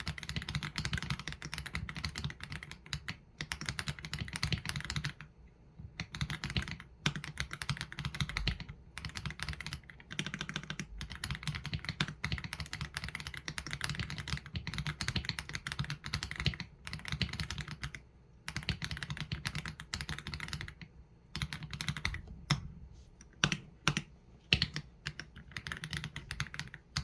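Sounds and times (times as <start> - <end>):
typing on mechanical keyboard: 0.0 - 27.0.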